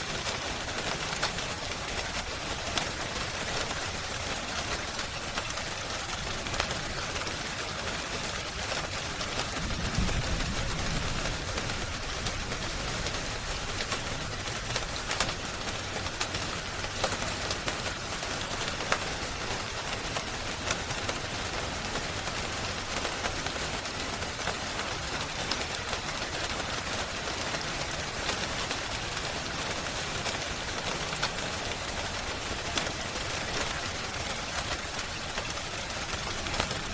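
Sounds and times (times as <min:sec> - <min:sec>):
rain hiss: 0:00.0 - 0:36.9
wood fire crackling and popping: 0:00.1 - 0:36.9.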